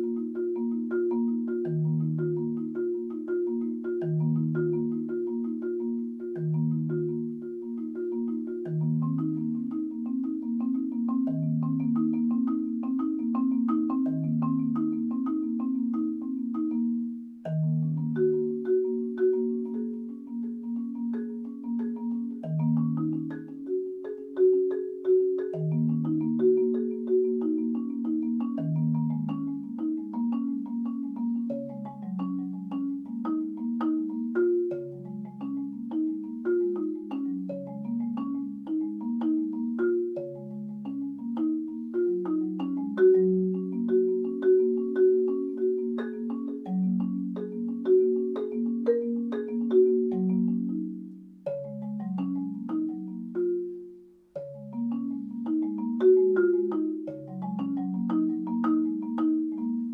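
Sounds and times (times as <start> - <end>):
marimba playing: 0.0 - 59.9.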